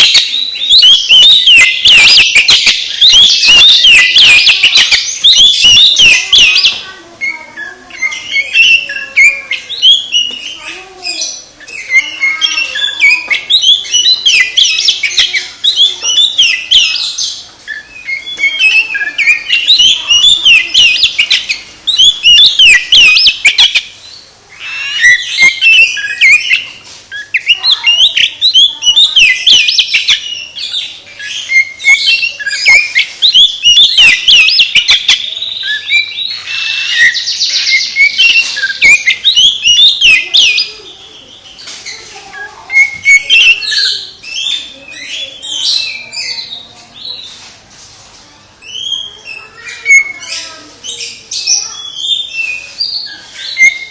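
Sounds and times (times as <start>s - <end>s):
bird singing whistles and chatter: 0.0s - 47.5s, 48.3s - 53.9s.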